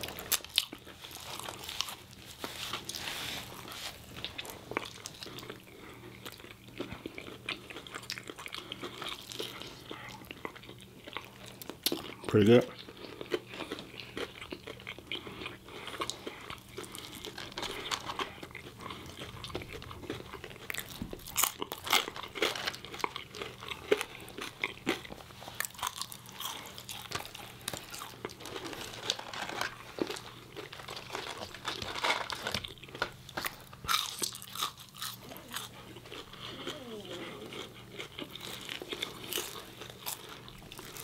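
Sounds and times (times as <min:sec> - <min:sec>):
wet chewing: 0:00.0 - 0:31.8, 0:32.5 - 0:41.0
people chewing food: 0:00.0 - 0:41.0
crunchy bites of crispy breading: 0:04.7 - 0:36.2, 0:37.7 - 0:41.0.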